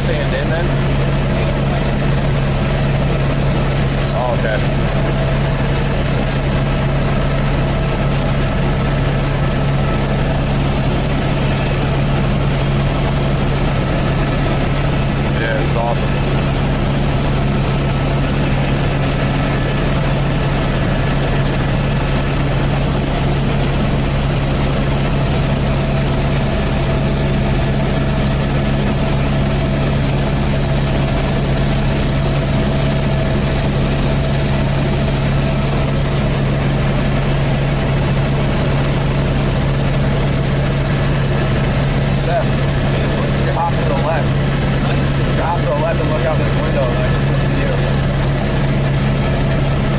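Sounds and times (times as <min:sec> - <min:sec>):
helicopter drone from inside cabin: 0:00.0 - 0:49.9.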